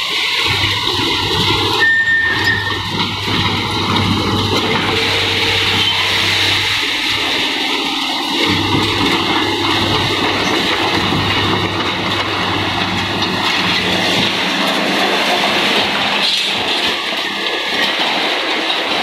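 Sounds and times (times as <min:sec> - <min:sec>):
excavator diesel engine: 0:00.0 - 0:19.0
metal rattling and scraping: 0:00.4 - 0:19.0.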